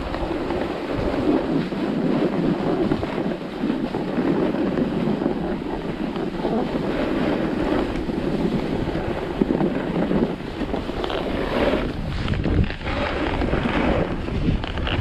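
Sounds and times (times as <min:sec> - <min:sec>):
skis sliding on packed snow: 0:00.0 - 0:15.0
wind buffeting microphone: 0:00.0 - 0:15.0.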